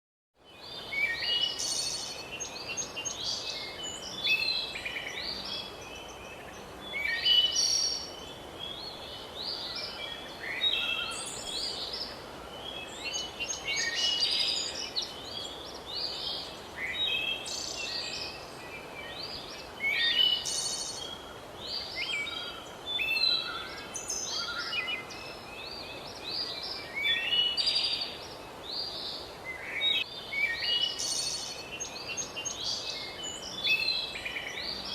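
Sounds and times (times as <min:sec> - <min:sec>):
faint steady hiss: 0:00.4 - 0:34.9.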